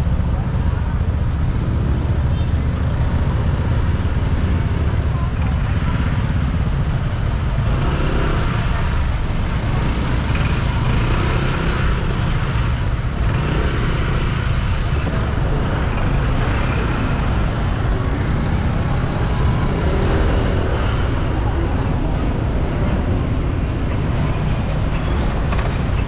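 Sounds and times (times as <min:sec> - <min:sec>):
slow road traffic rumble: 0:00.0 - 0:26.0.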